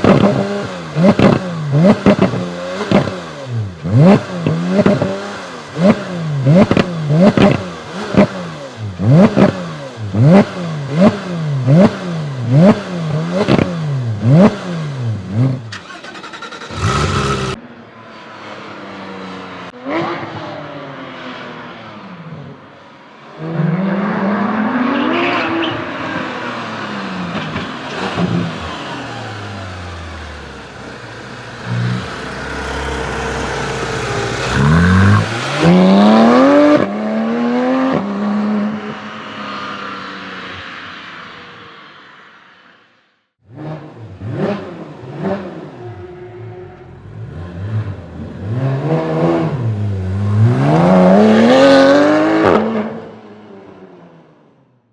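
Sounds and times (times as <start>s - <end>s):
car accelerating hard: 0.0s - 17.6s, 23.4s - 41.2s, 43.5s - 54.3s.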